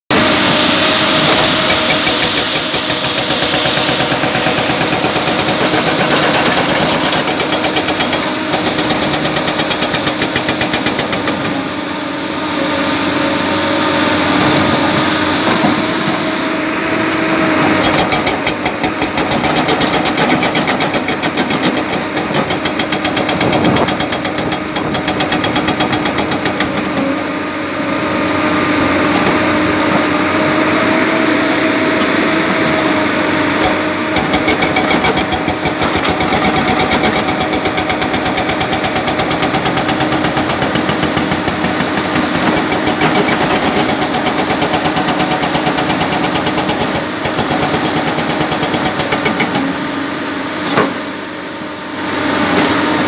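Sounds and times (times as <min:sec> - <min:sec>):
hydraulic rock breaker hammering: 0:00.1 - 0:12.0, 0:14.2 - 0:27.4, 0:31.7 - 0:49.8, 0:50.6 - 0:51.1
machine engine drone: 0:00.1 - 0:53.0.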